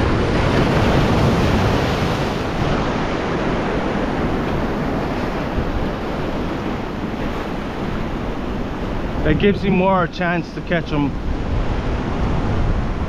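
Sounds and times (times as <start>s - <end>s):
ocean surf washing in: 0.0s - 13.0s
wind blowing on microphone: 0.0s - 13.0s.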